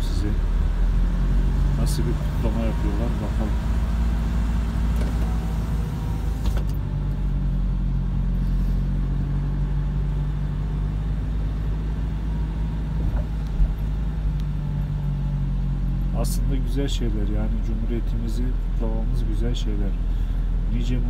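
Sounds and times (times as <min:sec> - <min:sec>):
car engine drone: 0:00.0 - 0:21.0
road noise: 0:00.0 - 0:21.0.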